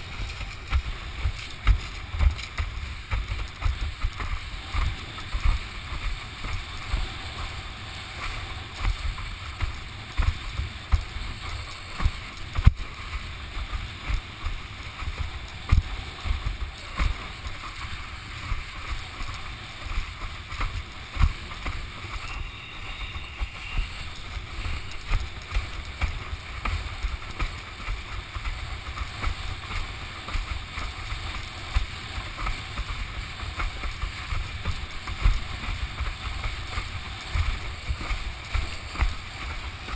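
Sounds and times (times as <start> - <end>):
sea water rushing past board: 0.0 - 39.9.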